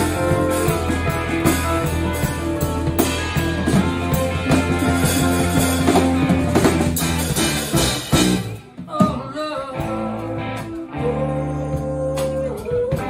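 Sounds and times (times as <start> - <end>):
bass guitar: 0.0 - 13.0
drum kit beat: 0.0 - 13.0
electric guitar: 0.0 - 13.0.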